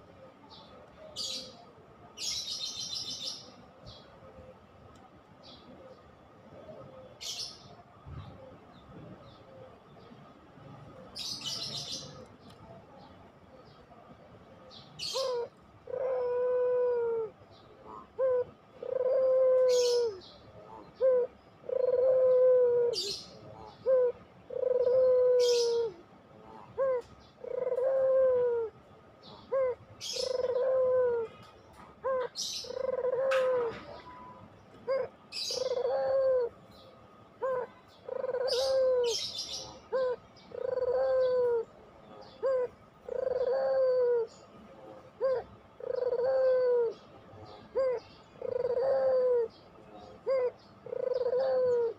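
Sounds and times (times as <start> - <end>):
dove cooing: 0.0 - 4.8, 5.4 - 12.8, 14.6 - 51.9.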